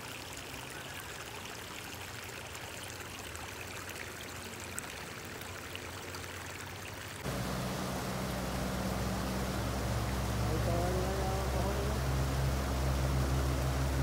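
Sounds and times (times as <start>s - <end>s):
water running over gravel: 0.0s - 14.0s.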